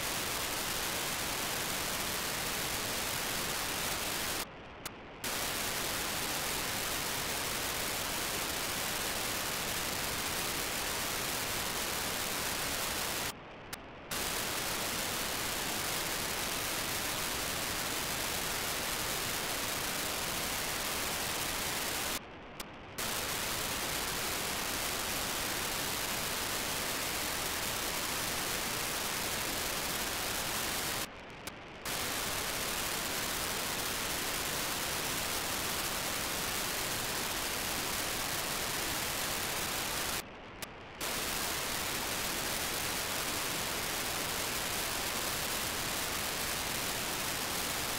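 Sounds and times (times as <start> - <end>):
radio static hiss: 0.0 - 47.9.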